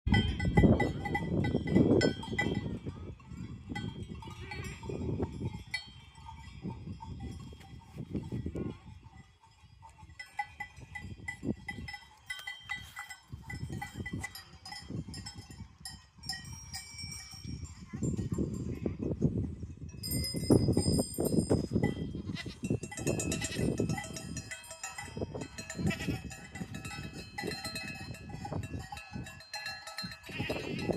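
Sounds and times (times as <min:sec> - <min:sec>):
goat bells clanking: 0:00.1 - 0:30.9.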